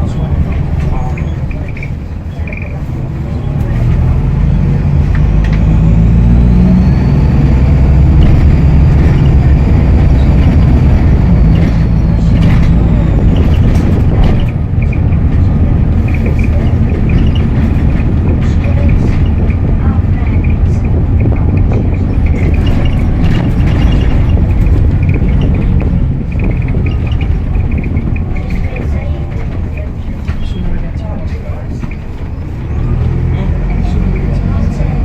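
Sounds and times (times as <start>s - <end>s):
bus engine rumbling: 0.0s - 35.0s.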